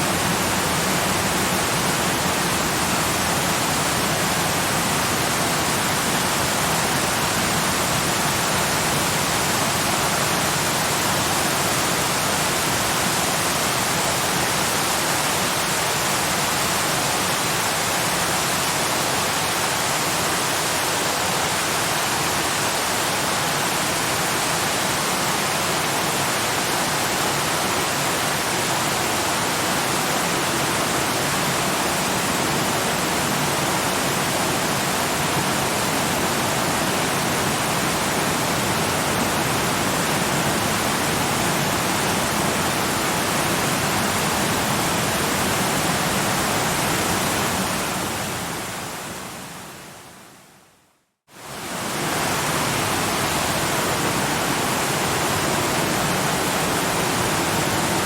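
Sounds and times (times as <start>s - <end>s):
waterfall rushing: 0.0s - 49.8s, 51.4s - 58.0s.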